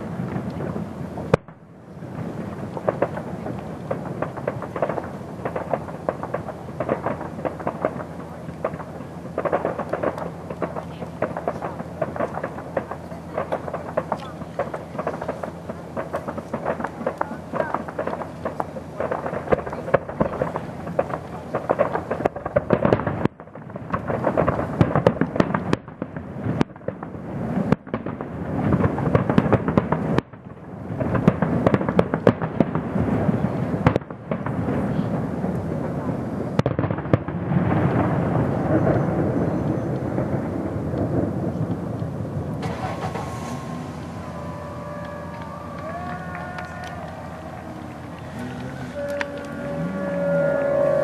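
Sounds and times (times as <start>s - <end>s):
fireworks bursts and crackling: 0.0s - 51.0s
fireworks rumble: 0.0s - 51.0s.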